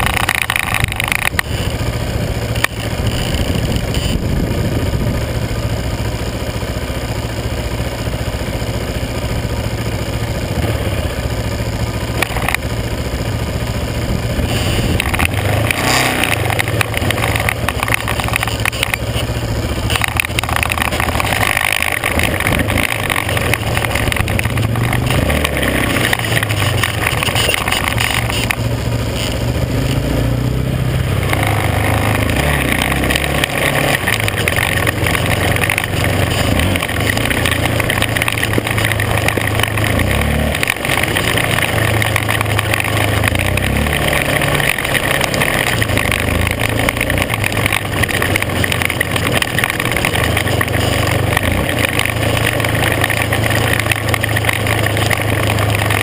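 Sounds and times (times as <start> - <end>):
tyre noise on gravel: 0.0 - 30.2, 31.1 - 56.0
vehicle engine revving: 0.0 - 56.0.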